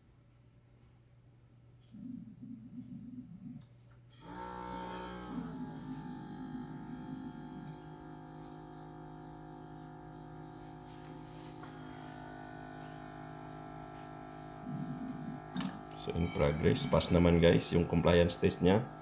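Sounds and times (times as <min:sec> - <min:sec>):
ventilator whirring drone: 0:01.7 - 0:19.0.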